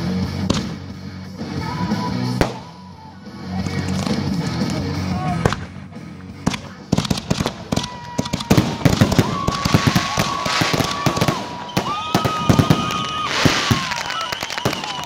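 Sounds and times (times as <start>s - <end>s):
fireworks bangs and crackle: 0.0s - 15.0s
high whistling fireworks: 0.0s - 15.0s.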